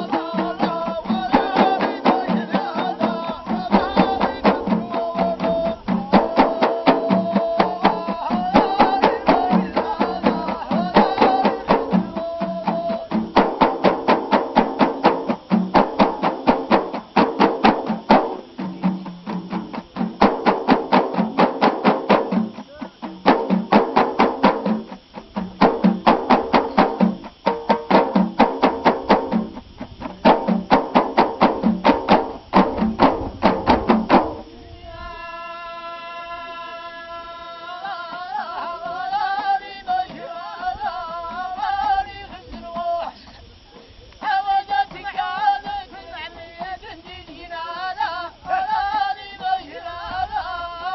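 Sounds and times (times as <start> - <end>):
frame drums struck fast: 0.0 - 35.3, 37.3 - 50.9
group voices singing low notes: 0.0 - 50.9.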